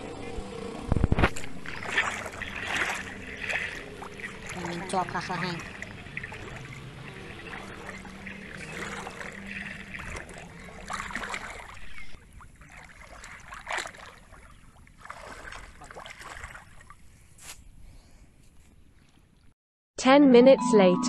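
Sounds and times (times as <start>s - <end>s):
muddy water splashing and sloshing: 1.0s - 17.4s, 18.7s - 19.5s.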